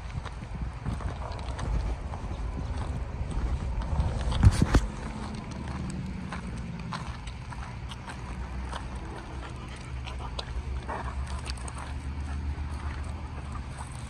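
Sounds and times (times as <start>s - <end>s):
footsteps crunching on gravel: 0.0s - 14.0s
low microphone rumble: 0.0s - 14.0s.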